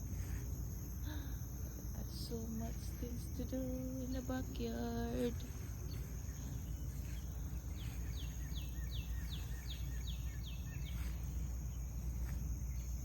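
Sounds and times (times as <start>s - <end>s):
high insect trill: 0.0s - 13.0s.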